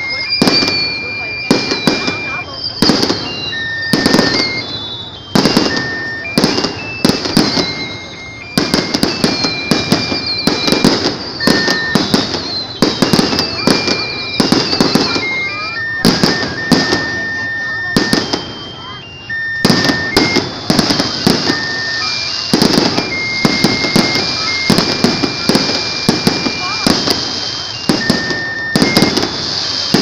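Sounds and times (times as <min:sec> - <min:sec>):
falling firework whistles: 0:00.0 - 0:30.0
fireworks bangs and crackles: 0:00.0 - 0:30.0.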